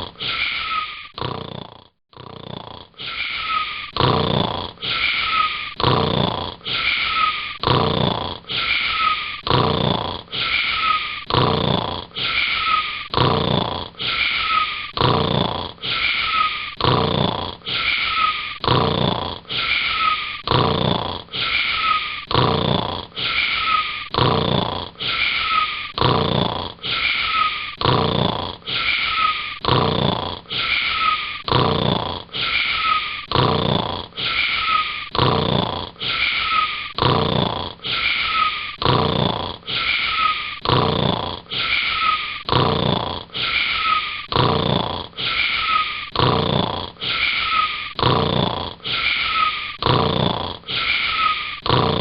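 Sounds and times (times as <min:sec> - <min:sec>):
cartoon snoring: 0:00.0 - 0:52.0.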